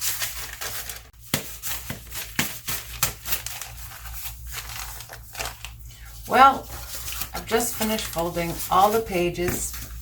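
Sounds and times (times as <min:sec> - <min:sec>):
paper rustling and creasing: 0:00.0 - 0:10.0.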